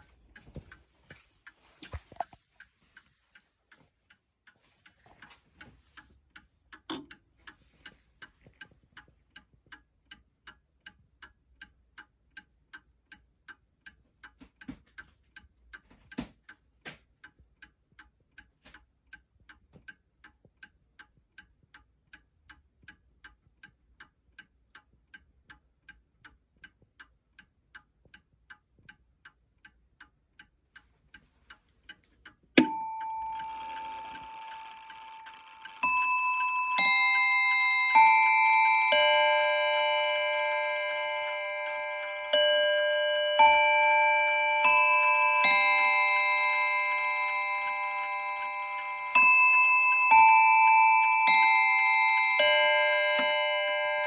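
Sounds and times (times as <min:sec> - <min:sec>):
clock ticking faintly: 0:00.0 - 0:54.0.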